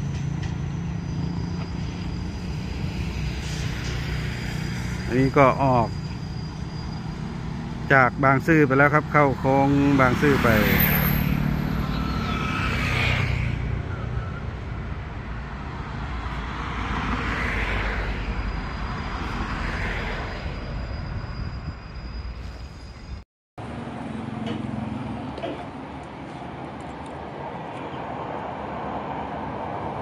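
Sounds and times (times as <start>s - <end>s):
vehicles passing: 0.0s - 21.5s, 23.0s - 30.0s
low traffic rumble: 0.0s - 30.0s.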